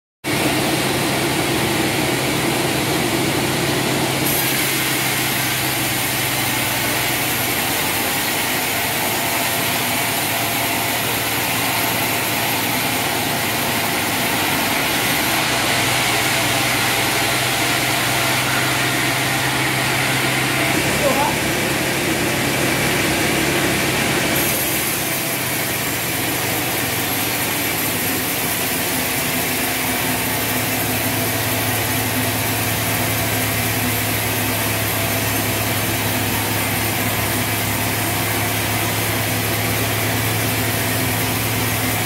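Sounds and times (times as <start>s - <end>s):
band saw cutting log: 0.3s - 42.0s.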